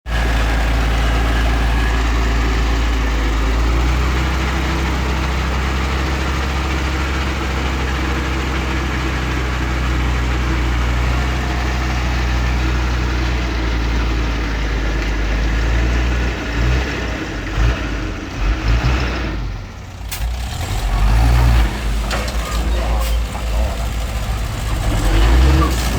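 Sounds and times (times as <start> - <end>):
diesel engine humming: 0.1 - 25.9.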